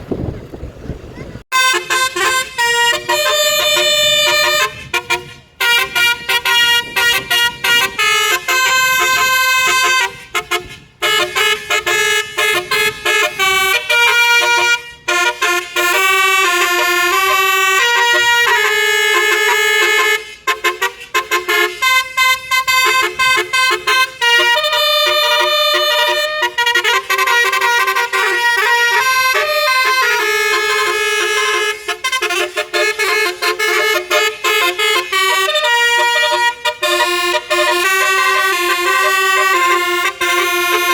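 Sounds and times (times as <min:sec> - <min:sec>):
multi-tone musical air horn tune: 0:01.5 - 0:40.9.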